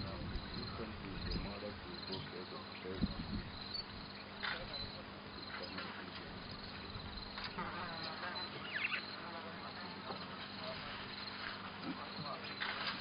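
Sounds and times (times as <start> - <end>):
faint high insect chirring: 0.0 - 13.0.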